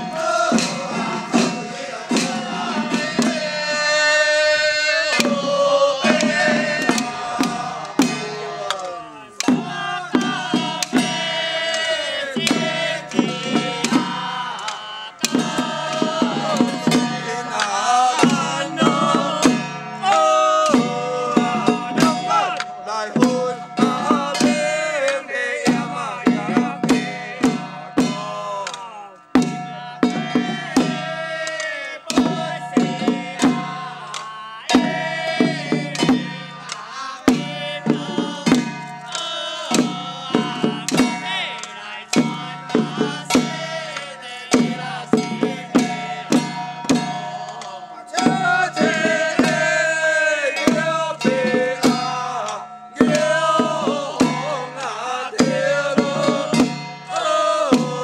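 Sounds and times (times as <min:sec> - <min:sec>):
music with busy percussion: 0:00.0 - 0:58.0.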